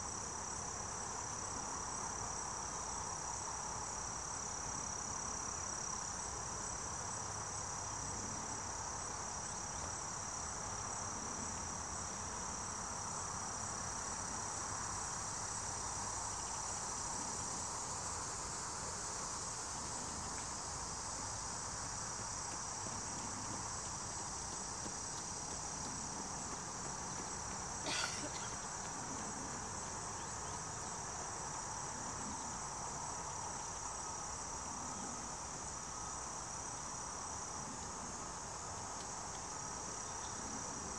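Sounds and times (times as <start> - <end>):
high-pitched insect chorus: 0.0 - 40.9
low insect hum: 0.0 - 40.9.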